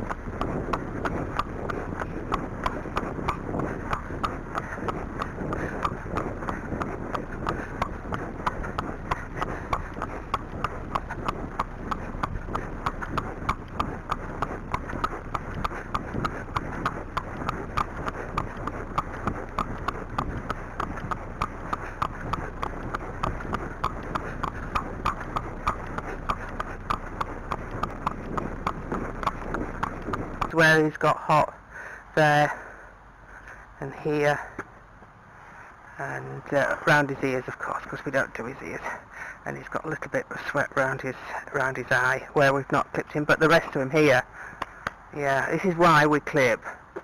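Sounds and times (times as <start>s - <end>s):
horse hooves clip-clopping on tarmac: 0.0s - 31.5s, 39.6s - 47.0s.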